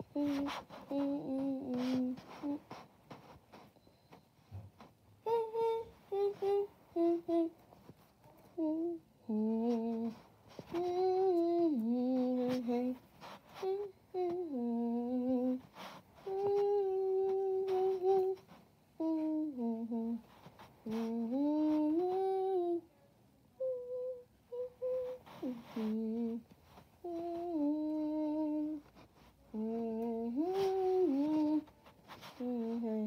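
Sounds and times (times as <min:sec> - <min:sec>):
person humming a tune: 0:00.0 - 0:03.7, 0:04.5 - 0:07.6, 0:08.3 - 0:22.9, 0:23.5 - 0:33.0.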